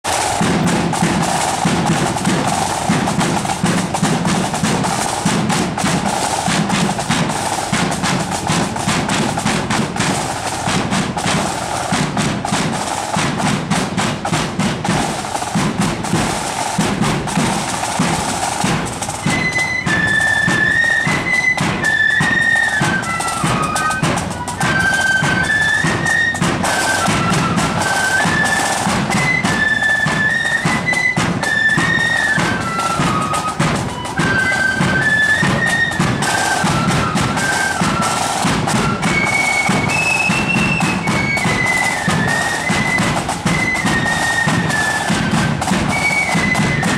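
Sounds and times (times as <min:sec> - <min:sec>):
snare and bass drums marching: 0:00.0 - 0:46.9
shrill flute melody: 0:00.1 - 0:46.9.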